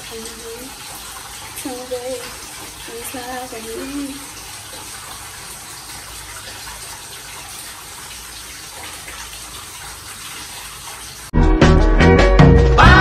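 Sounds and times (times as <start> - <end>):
water running from a tap: 0.0 - 11.4.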